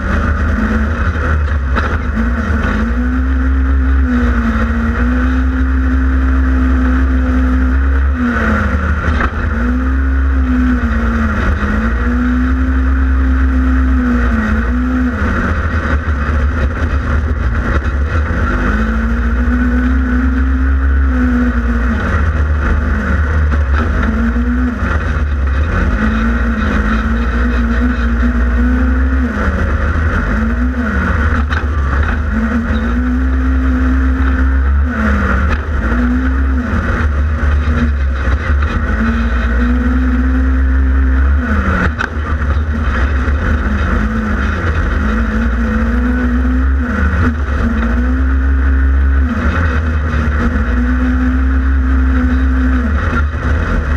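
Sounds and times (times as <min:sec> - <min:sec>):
engine revving: 0:00.0 - 0:53.9
steady low rumble: 0:00.0 - 0:53.9.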